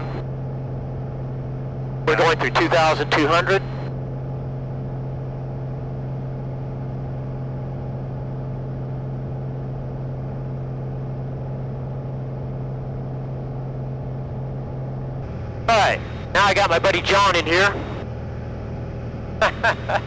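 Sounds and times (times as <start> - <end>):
aircraft engine and propeller droning: 0.0 - 20.0.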